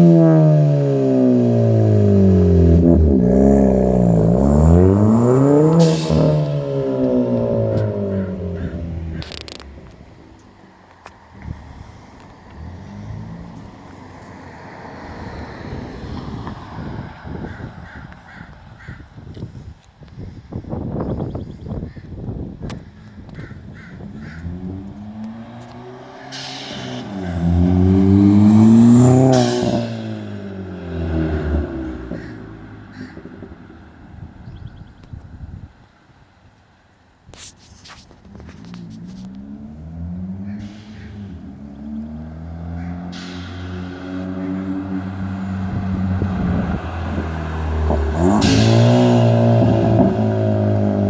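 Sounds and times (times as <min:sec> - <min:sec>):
car exhaust note: 0:00.0 - 0:18.8, 0:22.3 - 0:35.7, 0:38.2 - 0:51.0.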